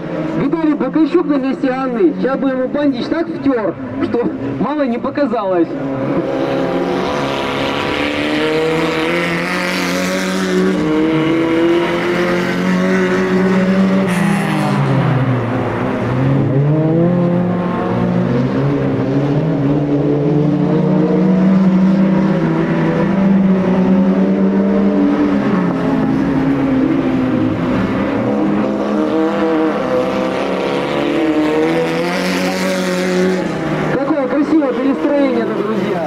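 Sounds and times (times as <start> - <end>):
race car engines revving: 0.0 - 36.0.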